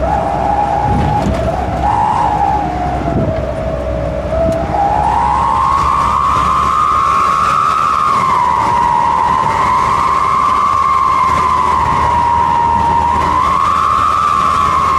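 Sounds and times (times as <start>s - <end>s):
howling whistle exhaust: 0.0s - 14.9s.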